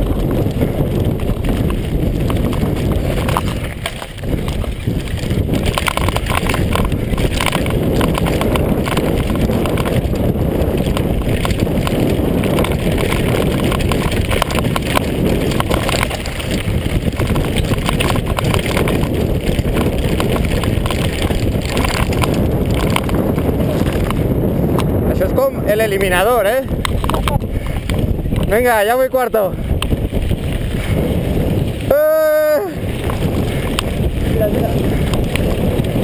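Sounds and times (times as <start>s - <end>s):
bike clattering: 0.0s - 36.0s
tyres crunching on gravel: 0.0s - 36.0s
wind buffeting microphone: 0.0s - 36.0s.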